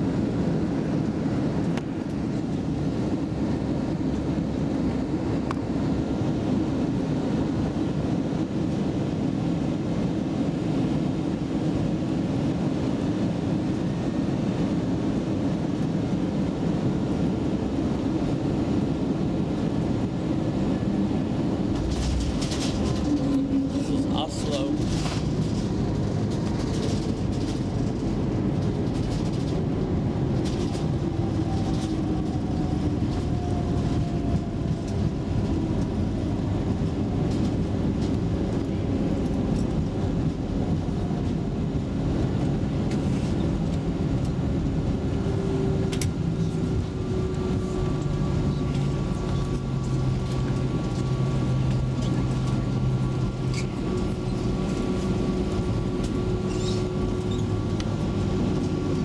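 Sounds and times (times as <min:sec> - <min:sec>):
engine and wheel rumble: 0:00.0 - 0:59.0
jet engine whine: 0:00.0 - 0:59.0.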